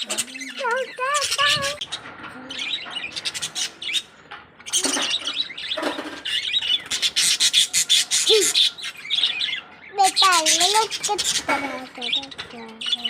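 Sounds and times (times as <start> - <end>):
cockatiels chirping: 0.0 - 13.0.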